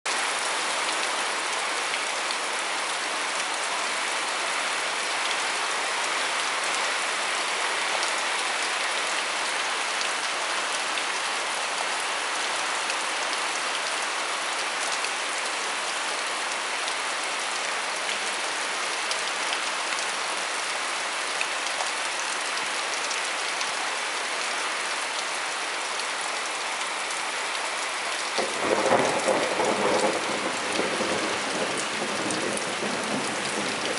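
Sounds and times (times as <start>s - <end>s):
heavy rain on trees: 0.1s - 33.9s.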